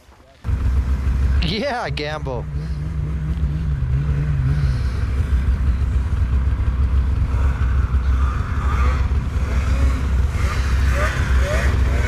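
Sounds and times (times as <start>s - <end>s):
second engine wavering: 0.4s - 12.0s
snowmobile engine running: 0.4s - 12.0s.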